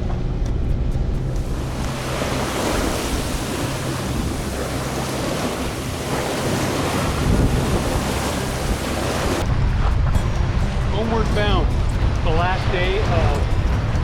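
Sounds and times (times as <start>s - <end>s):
boat diesel engine running: 0.0s - 14.0s
strong wind on microphone: 1.4s - 14.0s.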